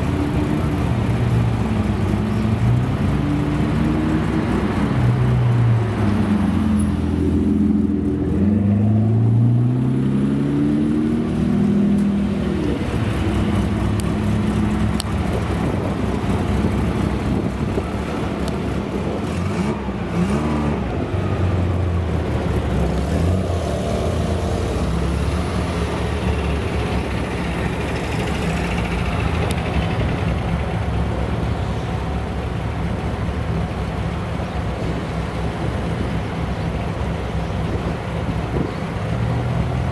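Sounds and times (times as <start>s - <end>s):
engine drone with road noise: 0.0s - 39.9s.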